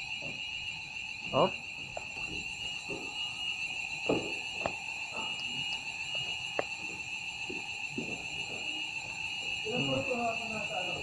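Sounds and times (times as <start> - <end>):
fire alarm tone: 0.0 - 11.0.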